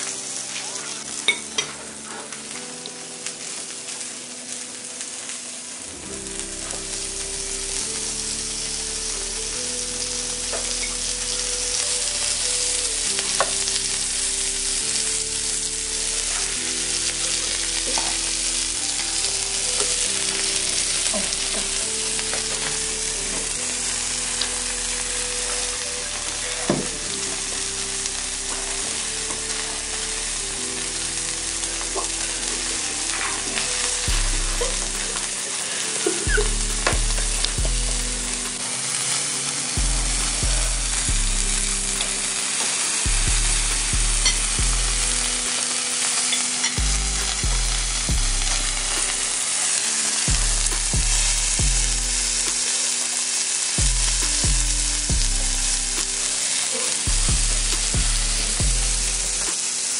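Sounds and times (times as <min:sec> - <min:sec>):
food sizzling as it fries: 0:00.0 - 0:59.9
music with deep bass beat: 0:05.9 - 0:59.9.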